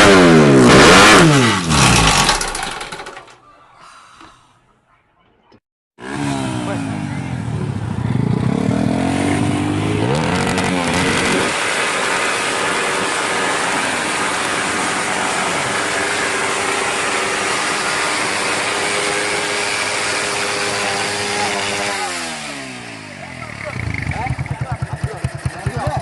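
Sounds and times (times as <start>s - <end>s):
motorcycle engine revving: 0.0s - 3.2s, 6.0s - 26.0s.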